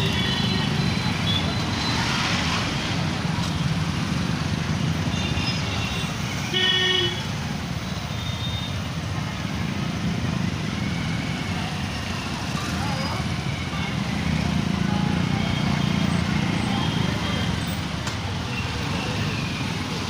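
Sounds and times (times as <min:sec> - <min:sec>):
motorcycle engine and road noise: 0:00.0 - 0:06.6, 0:07.3 - 0:20.0.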